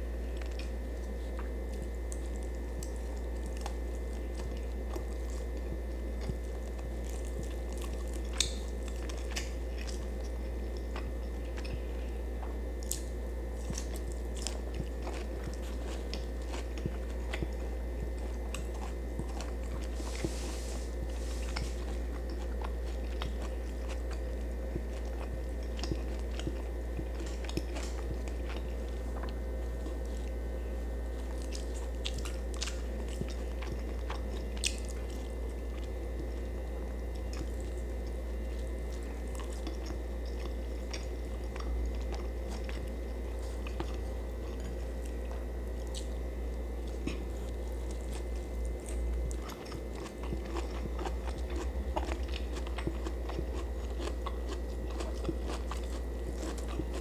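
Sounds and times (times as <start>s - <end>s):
person chewing food: 0.0s - 57.0s
steady low hum: 0.0s - 57.0s.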